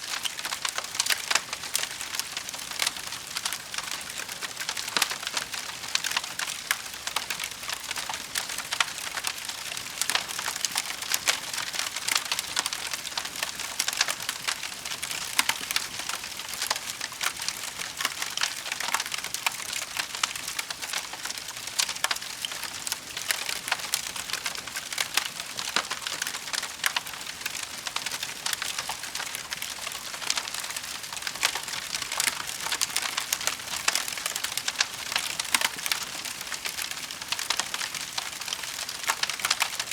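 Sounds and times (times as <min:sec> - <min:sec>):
fire pops and crackles: 0:00.1 - 0:39.9.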